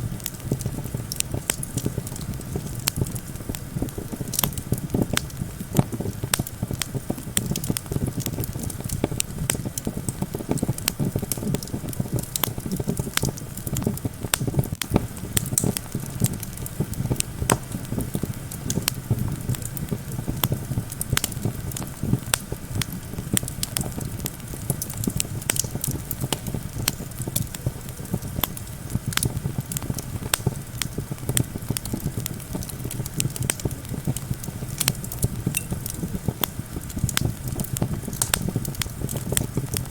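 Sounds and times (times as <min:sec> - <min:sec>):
campfire crackling and popping: 0:00.0 - 0:39.9
low wind rumble: 0:00.0 - 0:39.9.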